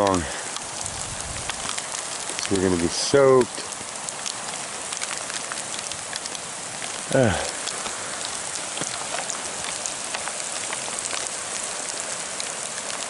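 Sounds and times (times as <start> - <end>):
hail and rain pelting ground: 0.0 - 13.0.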